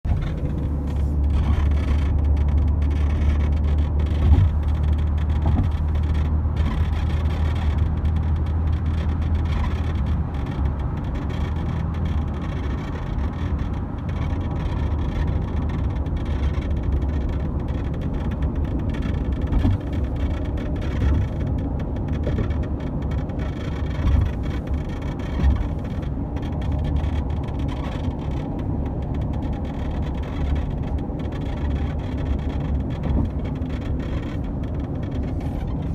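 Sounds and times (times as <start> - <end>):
low vehicle rumble: 0.0 - 35.9.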